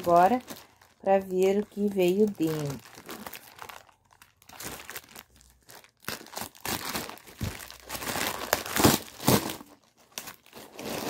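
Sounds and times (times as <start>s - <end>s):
parcel packaging crinkling and tearing: 0.0s - 11.0s.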